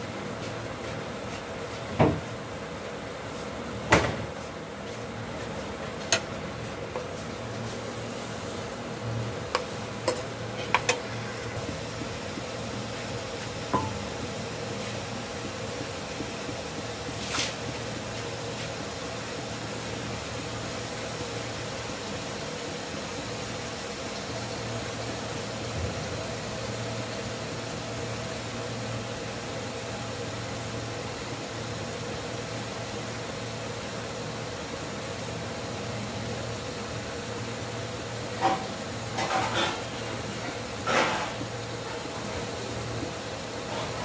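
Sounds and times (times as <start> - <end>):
cooktop fan hum: 0.0 - 44.0
food frying in a wok: 0.0 - 44.0.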